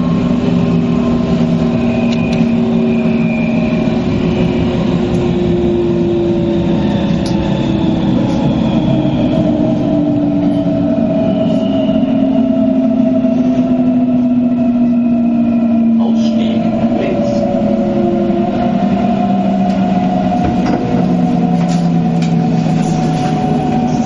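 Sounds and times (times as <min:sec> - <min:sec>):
train motor whine: 0:00.0 - 0:24.0
wheels rumbling on rails: 0:00.0 - 0:24.0.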